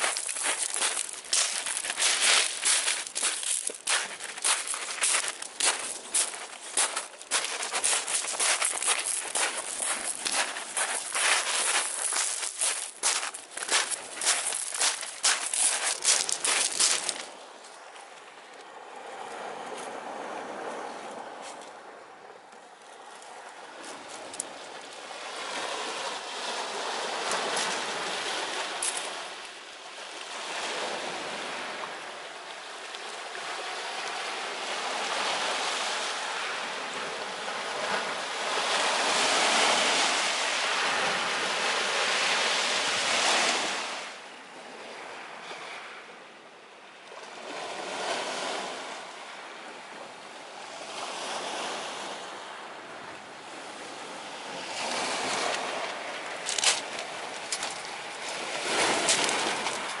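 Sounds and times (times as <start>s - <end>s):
ocean surf washing ashore: 0.0s - 17.5s, 23.3s - 46.1s, 47.2s - 60.0s.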